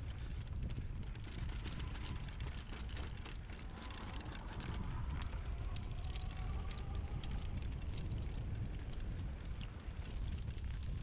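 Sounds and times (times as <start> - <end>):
bike clicks and rattles: 0.0 - 11.0
wind rumbling on microphone: 0.0 - 11.0.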